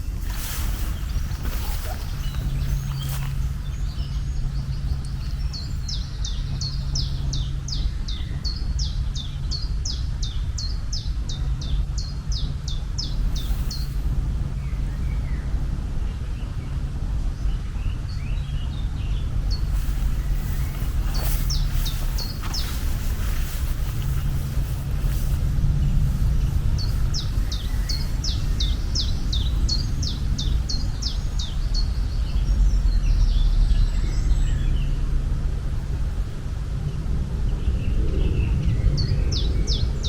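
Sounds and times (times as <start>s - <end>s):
bird chirping: 0.0s - 35.1s
low rumble with hum: 0.0s - 40.0s.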